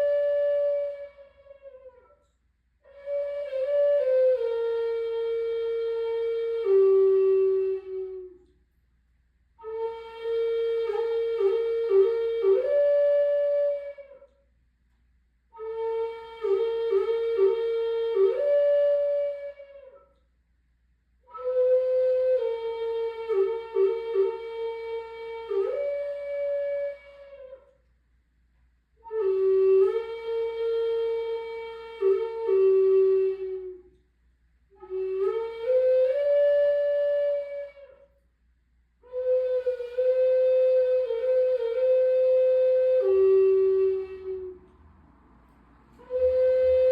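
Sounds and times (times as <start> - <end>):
flute-like melody: 0.0 - 8.6, 9.6 - 14.5, 15.5 - 20.2, 21.2 - 27.8, 29.0 - 34.0, 34.7 - 38.2, 39.0 - 44.9, 45.9 - 46.9.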